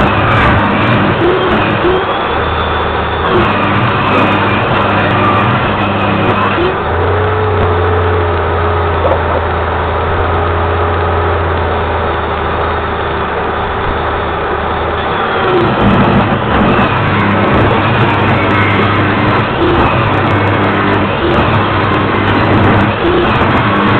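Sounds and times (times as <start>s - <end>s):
mechanical drone: 0.0s - 23.9s.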